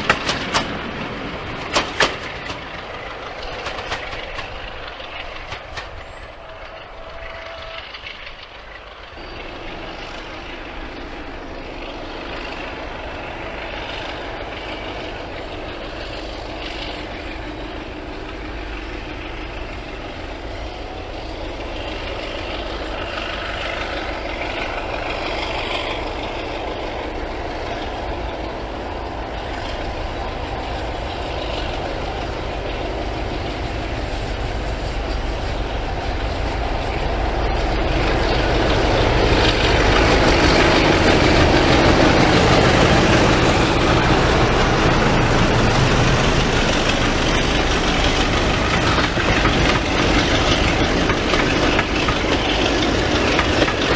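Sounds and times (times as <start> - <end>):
diesel locomotive engine running: 0.0 - 53.9.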